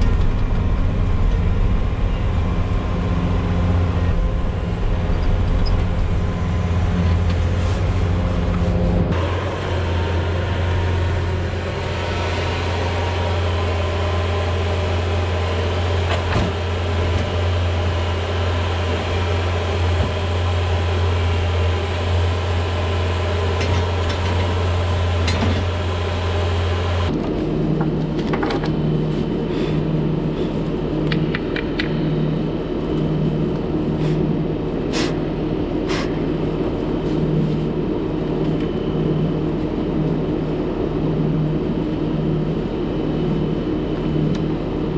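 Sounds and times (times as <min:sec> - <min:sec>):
diesel engine droning: 0:00.0 - 0:44.9
pulsing engine drone: 0:00.0 - 0:44.9.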